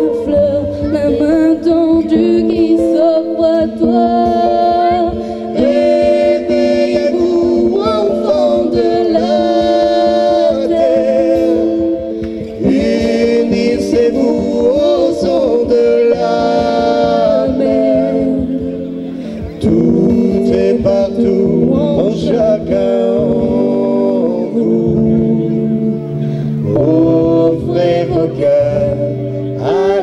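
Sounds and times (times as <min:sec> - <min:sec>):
strummed acoustic guitar: 0:00.0 - 0:30.0
woman and man singing: 0:00.0 - 0:30.0.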